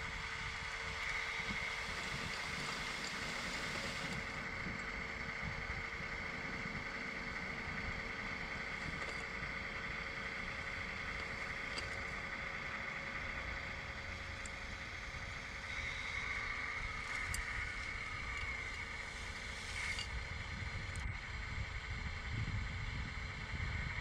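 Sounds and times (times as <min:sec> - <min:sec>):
motor whine: 0:00.0 - 0:24.0.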